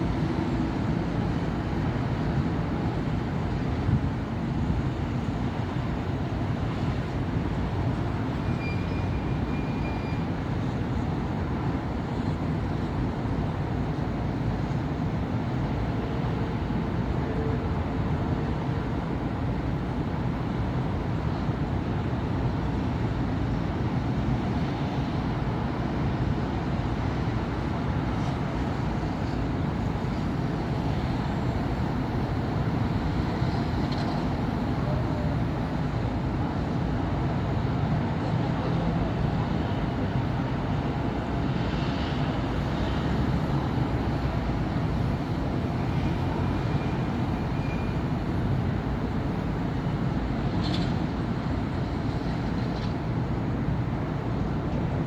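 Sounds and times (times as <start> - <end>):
road traffic rumble: 10.5 - 55.0.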